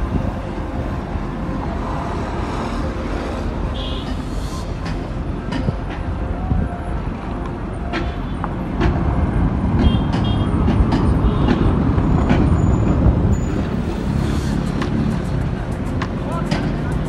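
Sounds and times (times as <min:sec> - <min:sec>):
vehicle road and wind noise: 0:00.0 - 0:17.0.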